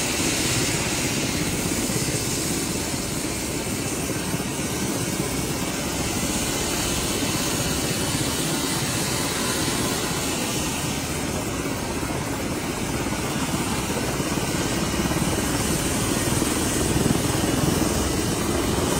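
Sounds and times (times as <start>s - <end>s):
aircraft engines running: 0.0s - 18.9s.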